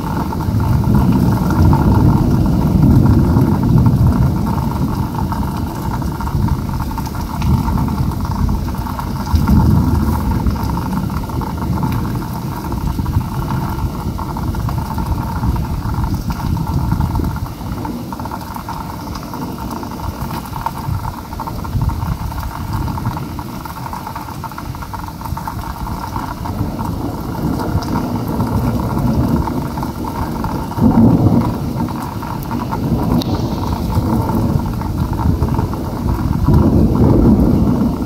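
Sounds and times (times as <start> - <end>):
hard rain hissing: 0.0 - 38.0
low rumble of thunder: 0.0 - 38.0.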